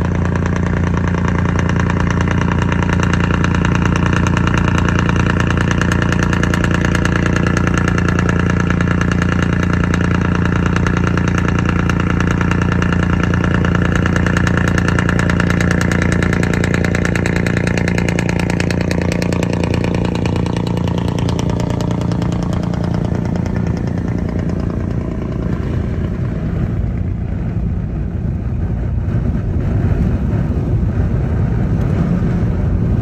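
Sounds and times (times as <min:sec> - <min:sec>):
road and wind noise: 0:00.0 - 0:33.0
truck diesel engine droning: 0:00.0 - 0:33.0.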